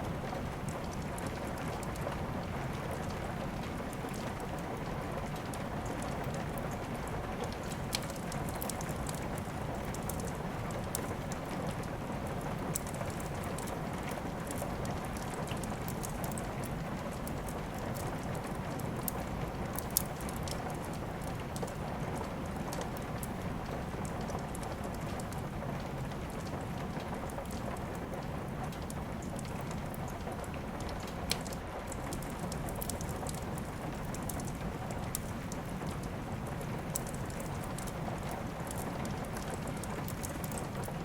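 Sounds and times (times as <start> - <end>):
wood fire snapping and popping: 0.5 - 41.0.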